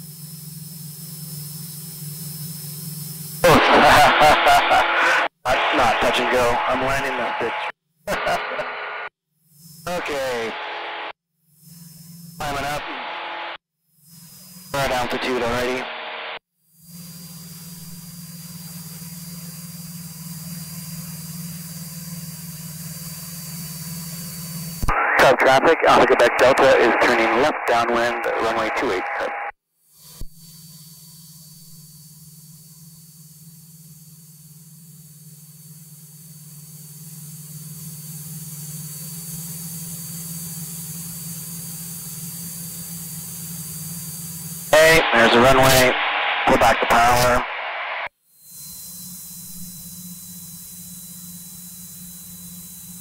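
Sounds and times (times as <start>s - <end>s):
plane engine and propeller drone: 0.0s - 47.5s, 48.4s - 53.0s.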